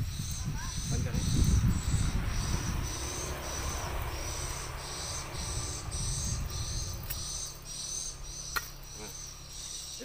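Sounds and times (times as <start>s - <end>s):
low rumbling noise: 0.0s - 9.7s
insect buzzing pulses: 0.0s - 10.0s.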